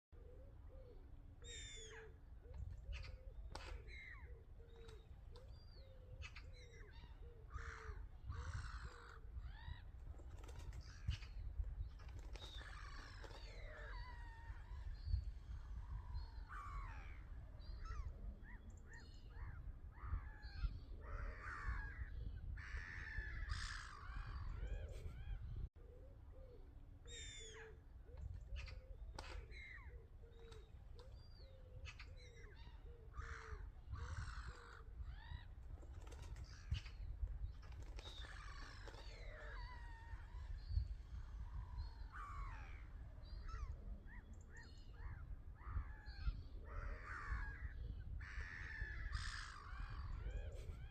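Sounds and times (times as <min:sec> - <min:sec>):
many birds calling: 0:00.2 - 0:50.9.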